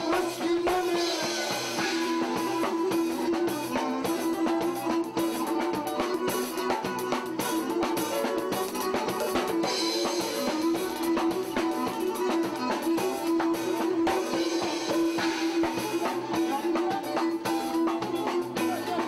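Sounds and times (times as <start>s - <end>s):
drum kit: 0.0s - 19.0s
keyboards: 0.0s - 19.0s.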